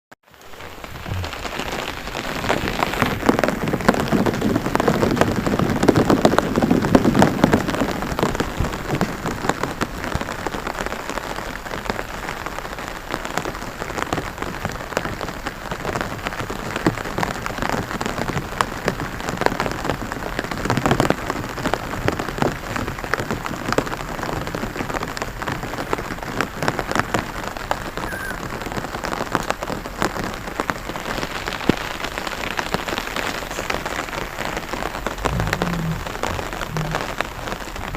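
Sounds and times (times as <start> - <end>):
rain pattering on water: 0.2 - 37.9.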